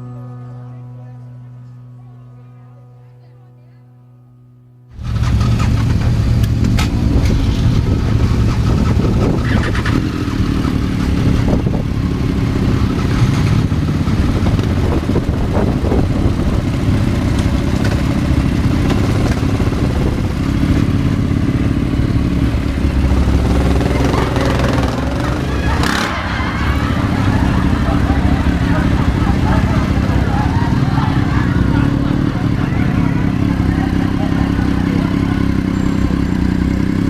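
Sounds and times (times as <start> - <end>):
motorcycle engine running: 4.9 - 37.0.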